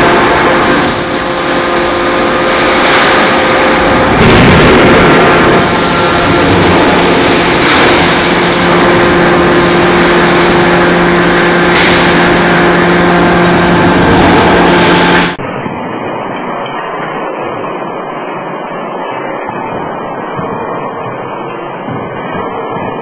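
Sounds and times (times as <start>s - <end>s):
machinery roaring: 0.0s - 23.0s
steady hum: 0.0s - 23.0s.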